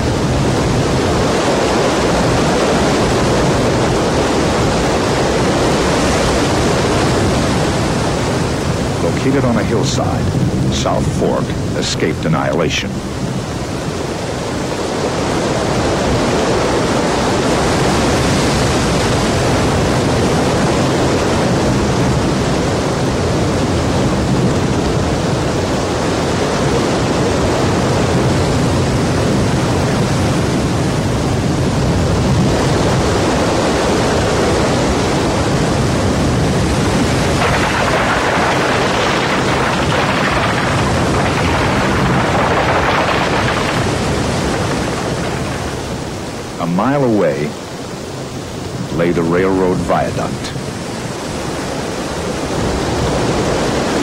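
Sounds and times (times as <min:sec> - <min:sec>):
rushing floodwater: 0:00.0 - 0:54.0.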